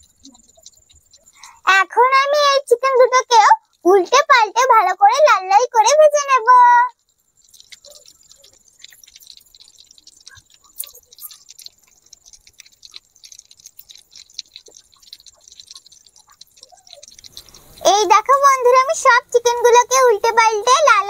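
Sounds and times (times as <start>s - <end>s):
crackles and pops of frying: 0.0s - 21.0s
oil sizzling: 0.0s - 21.0s.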